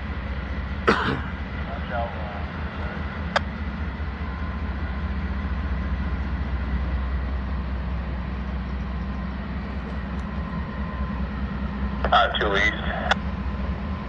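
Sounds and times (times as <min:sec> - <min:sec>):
freight train rumbling: 0:00.0 - 0:14.0.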